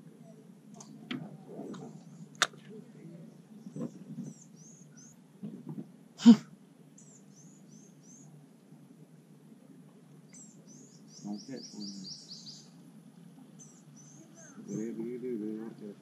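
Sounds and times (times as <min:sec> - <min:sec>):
small birds chirping: 0:00.0 - 0:06.0, 0:06.8 - 0:16.0.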